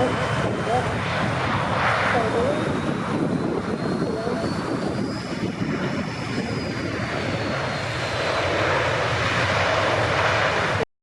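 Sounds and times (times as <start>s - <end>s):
airliner engines whining: 0.0s - 10.9s.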